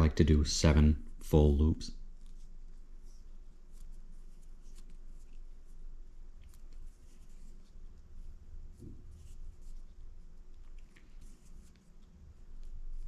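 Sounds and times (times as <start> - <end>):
scratchy rustling of line: 2.0 - 13.0.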